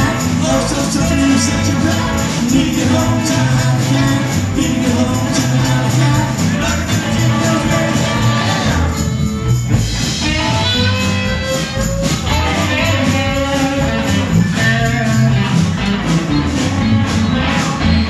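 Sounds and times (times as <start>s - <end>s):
guitar lead line: 0.0s - 18.0s
rockabilly band playing live: 0.0s - 18.0s.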